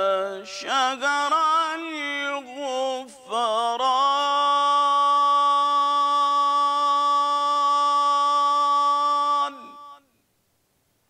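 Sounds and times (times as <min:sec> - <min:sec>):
man chanting unaccompanied: 0:00.0 - 0:10.1.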